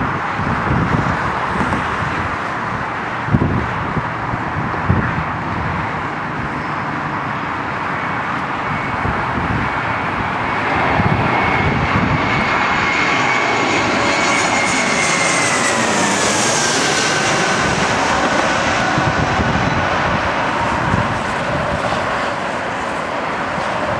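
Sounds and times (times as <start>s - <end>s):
jet airliner engine whine: 0.0s - 23.9s.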